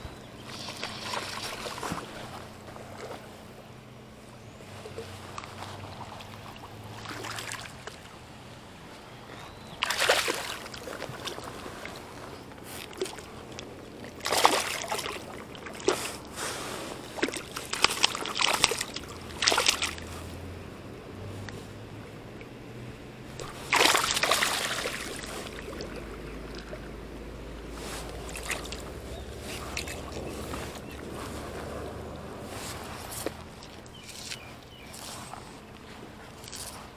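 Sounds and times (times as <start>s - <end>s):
fish thrashing in water: 0.4s - 3.3s, 4.8s - 8.1s, 9.6s - 16.3s, 17.0s - 20.2s, 23.4s - 36.9s.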